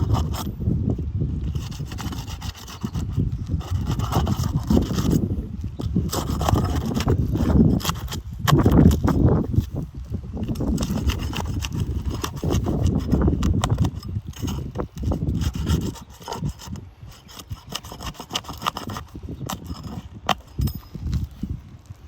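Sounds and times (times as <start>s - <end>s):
scraping on roof shingles: 1.5s - 9.8s, 10.4s - 21.4s.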